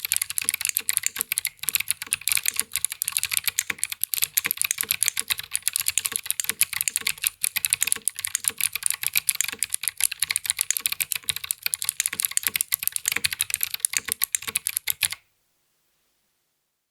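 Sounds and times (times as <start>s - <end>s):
typing on mechanical keyboard: 0.0s - 15.2s.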